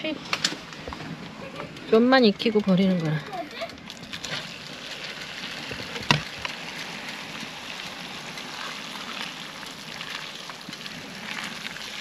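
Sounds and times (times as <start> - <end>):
water heating with hiss: 0.0 - 12.0.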